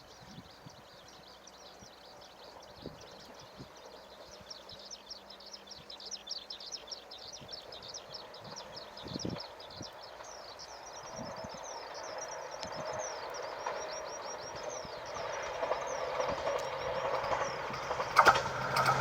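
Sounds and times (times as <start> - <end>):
faint outdoor background noise: 0.0 - 19.0
small birds chirping: 0.0 - 19.0.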